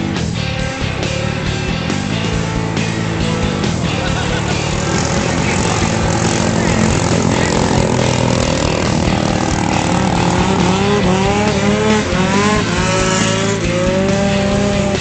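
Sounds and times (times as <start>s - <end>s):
boat engines revving: 0.0s - 15.0s.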